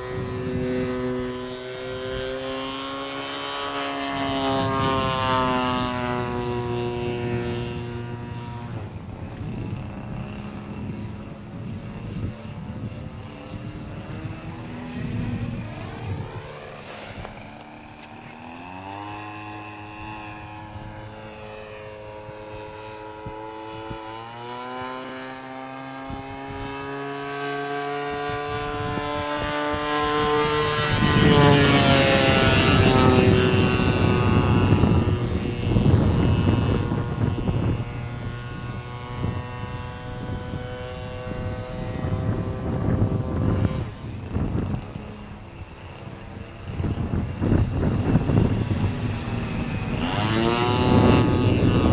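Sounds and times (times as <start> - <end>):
model aeroplane engine flying by: 0.0 - 51.9.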